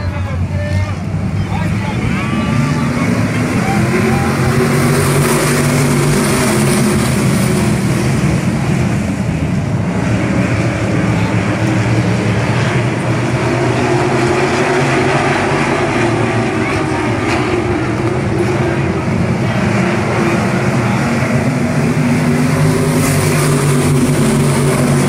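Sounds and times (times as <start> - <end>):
race car engines roaring: 0.0 - 25.0.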